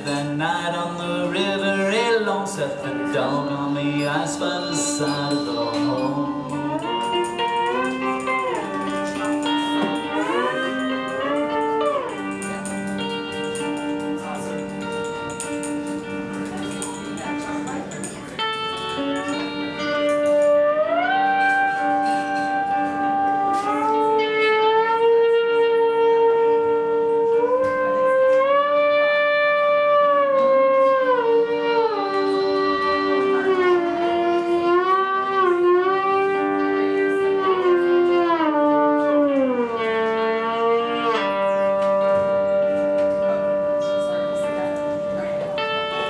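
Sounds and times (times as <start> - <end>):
slide guitar gliding notes: 0.0 - 46.0.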